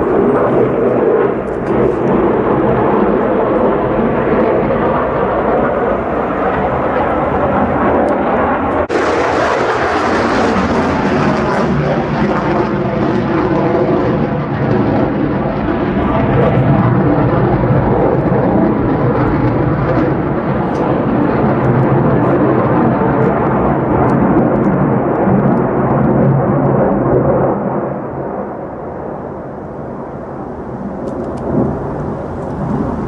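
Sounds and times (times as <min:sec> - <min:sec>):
loud jet engine roar: 0:00.0 - 0:33.0.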